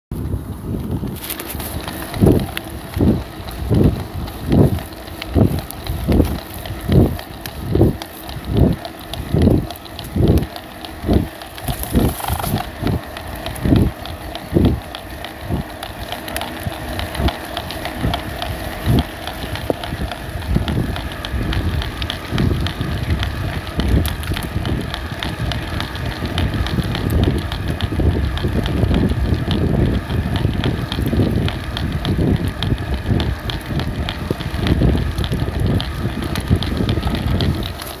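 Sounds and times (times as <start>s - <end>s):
wind rumble on microphone: 0.1s - 38.0s
e-bike motor cracking clicks: 0.2s - 38.0s.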